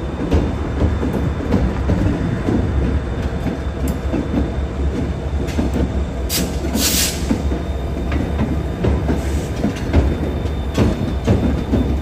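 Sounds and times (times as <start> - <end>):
train rumbling with wheel clatter: 0.0 - 12.0.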